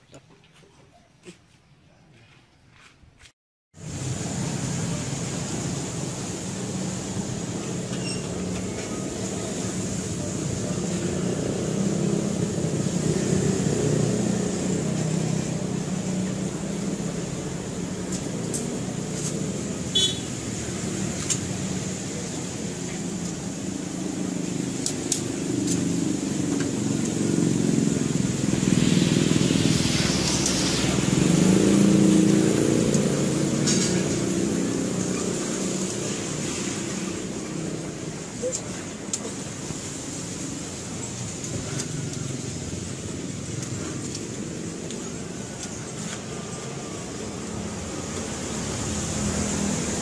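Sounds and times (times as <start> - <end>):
vehicles passing: 3.8 - 50.0.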